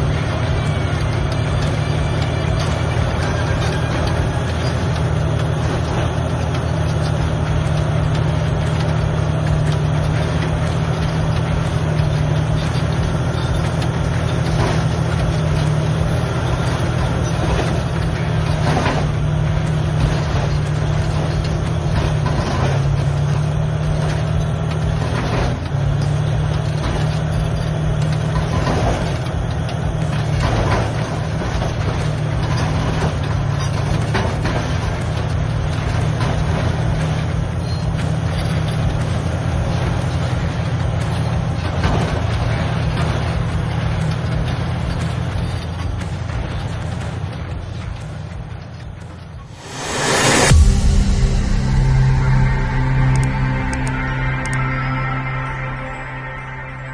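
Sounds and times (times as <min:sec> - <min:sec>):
bulldozer diesel engine running: 0:00.0 - 0:56.9
sharp metallic clanks: 0:00.0 - 0:56.9.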